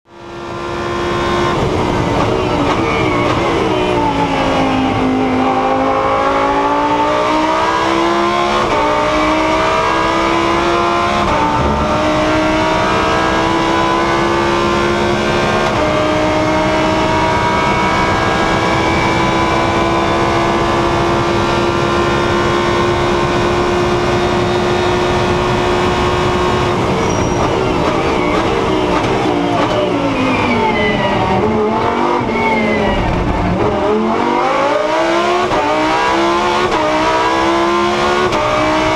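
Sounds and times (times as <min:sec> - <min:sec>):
race car engine accelerating: 0:00.1 - 0:38.9.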